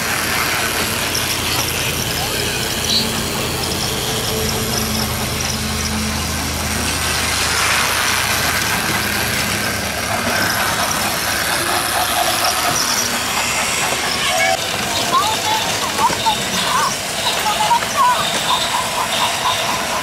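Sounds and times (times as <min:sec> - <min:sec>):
toy train motor whirring: 0:00.0 - 0:20.0
toy train wheels rattling: 0:00.0 - 0:20.0.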